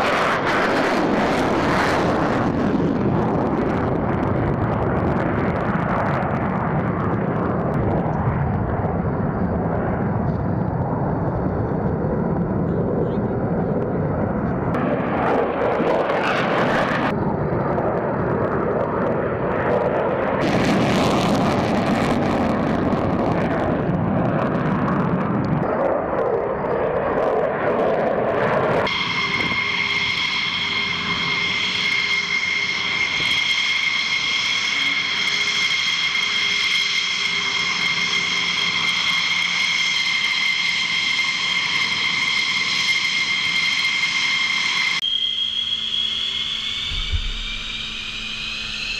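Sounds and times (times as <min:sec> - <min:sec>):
jet engine roar: 0:00.0 - 0:48.9
jet turbine whine: 0:00.0 - 0:48.9.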